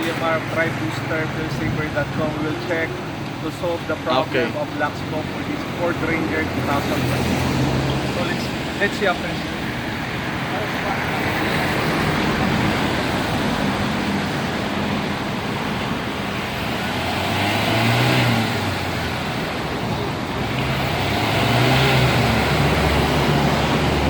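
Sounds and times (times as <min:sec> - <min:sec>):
diesel engine revving: 0:00.0 - 0:24.0.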